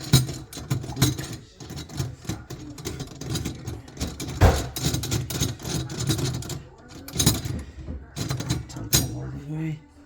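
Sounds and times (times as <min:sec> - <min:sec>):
metal clicks and knocks: 0:00.0 - 0:09.2.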